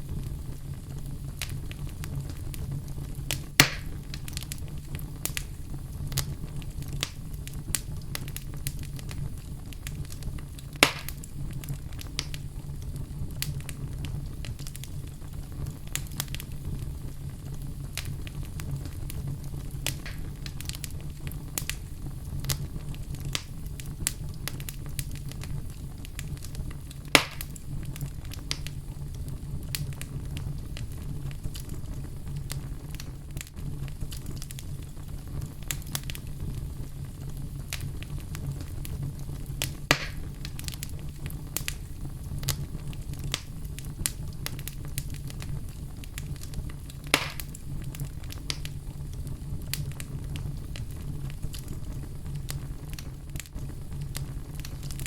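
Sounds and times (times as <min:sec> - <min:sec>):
loud fire pops: 0:00.0 - 0:55.0
low fire rumble: 0:00.0 - 0:55.0
wood fire crackling: 0:00.0 - 0:55.0.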